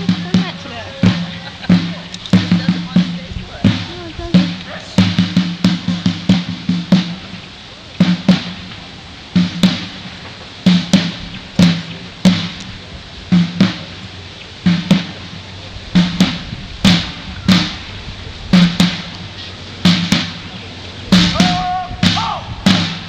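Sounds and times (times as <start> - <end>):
side drum beating: 0.0 - 23.0.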